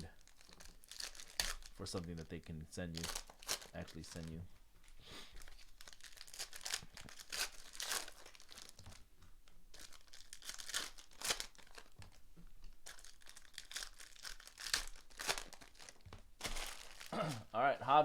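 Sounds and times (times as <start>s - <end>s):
wrappers being torn and crinkled: 0.0s - 2.3s, 2.9s - 4.4s, 5.4s - 17.5s.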